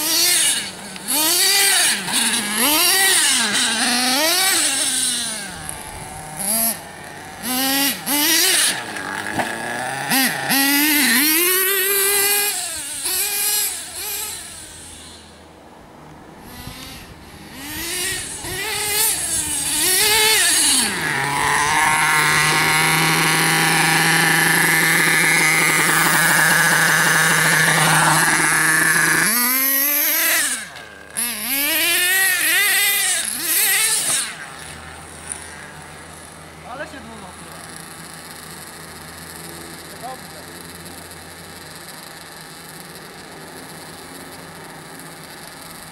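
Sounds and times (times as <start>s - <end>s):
model car motors revving: 0.0s - 15.5s, 16.4s - 45.9s.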